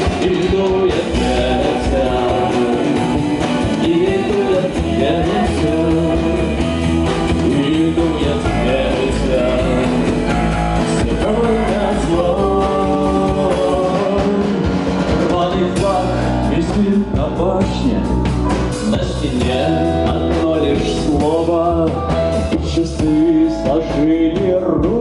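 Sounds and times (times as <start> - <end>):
rock music with guitar: 0.0 - 25.0.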